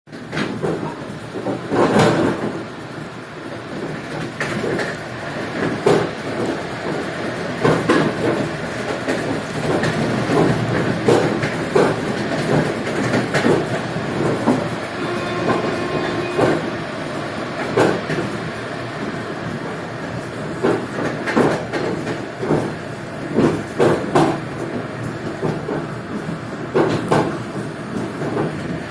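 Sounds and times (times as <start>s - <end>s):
wheels clacking over rail joints: 0.1s - 28.7s
train wheels rumbling: 0.1s - 28.9s.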